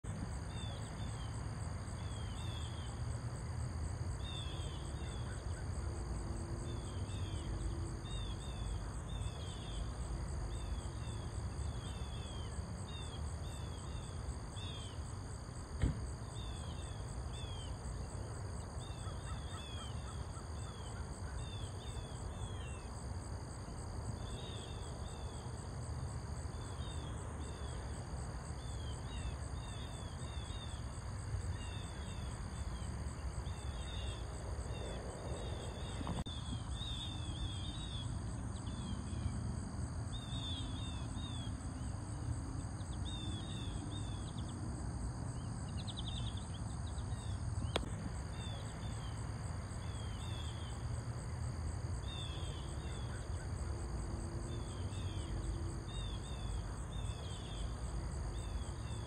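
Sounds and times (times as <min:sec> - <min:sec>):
pulsing insect chorus: 0:00.1 - 0:59.0.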